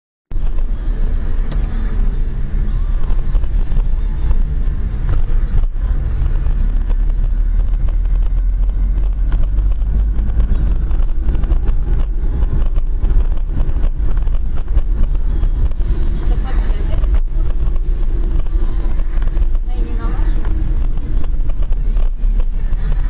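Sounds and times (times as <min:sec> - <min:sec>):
car driving rumble from inside: 0:00.3 - 0:23.0
small clicks and crackles: 0:02.9 - 0:23.0.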